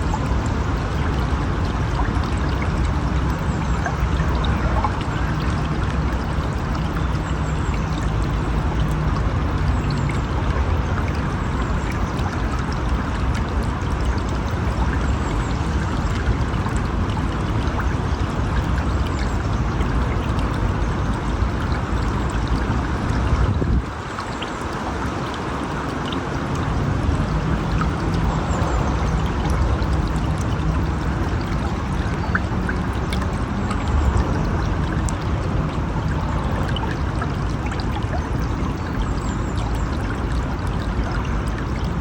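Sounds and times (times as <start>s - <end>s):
river water flowing: 0.0s - 42.0s.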